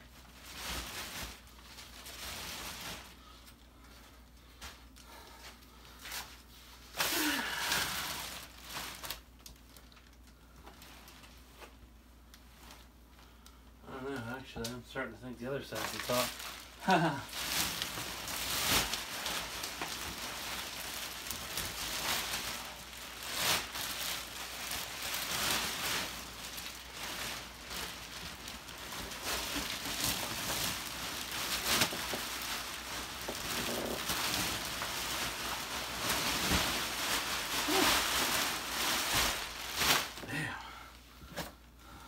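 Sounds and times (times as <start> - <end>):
plastic wrapping crinkling: 0.0 - 40.6.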